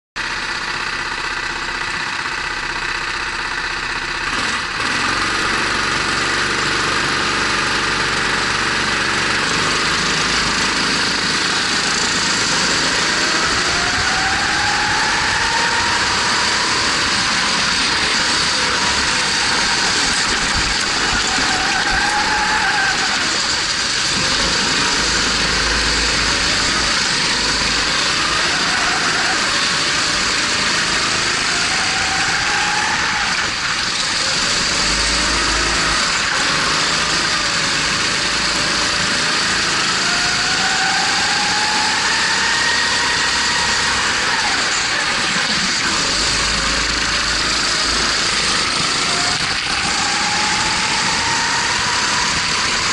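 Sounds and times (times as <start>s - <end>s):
kart engine revving: 0.2s - 52.9s.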